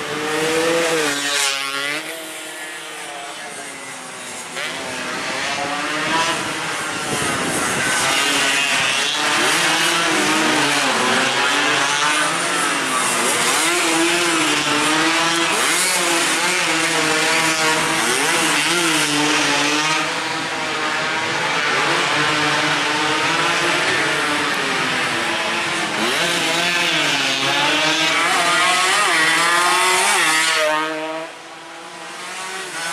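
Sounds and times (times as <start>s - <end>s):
racing motorcycles at full throttle: 0.0s - 32.9s.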